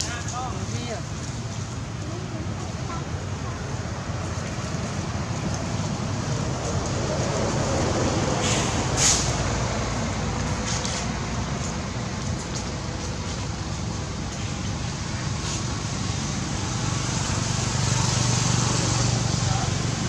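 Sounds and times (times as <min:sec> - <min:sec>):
road traffic rumble: 0:00.0 - 0:20.0
vehicle engine hum: 0:00.0 - 0:20.0.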